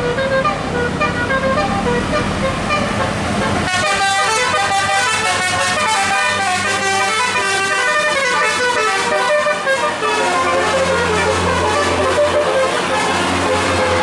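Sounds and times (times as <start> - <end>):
bus musical air horn melody: 0.0 - 14.0.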